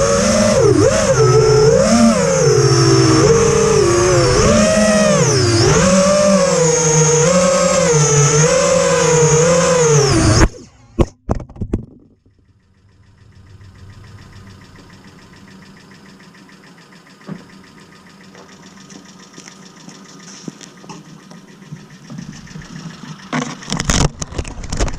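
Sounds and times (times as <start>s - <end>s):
drone motors whining: 0.0s - 11.1s, 12.0s - 24.9s.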